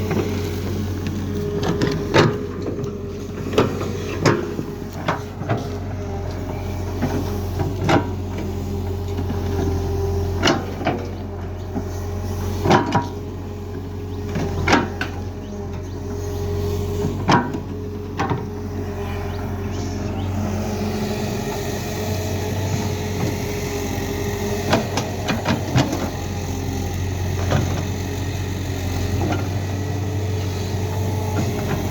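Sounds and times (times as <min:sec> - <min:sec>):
excavator diesel engine droning: 0:00.0 - 0:31.9.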